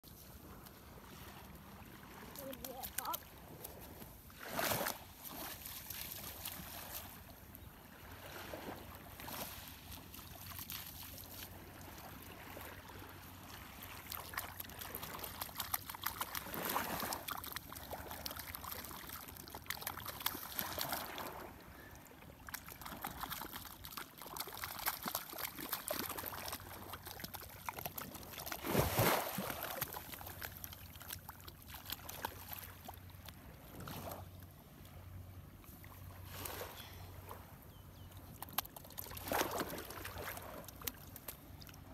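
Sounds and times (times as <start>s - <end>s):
small waves lapping on sand: 0.1s - 37.7s, 38.4s - 41.9s.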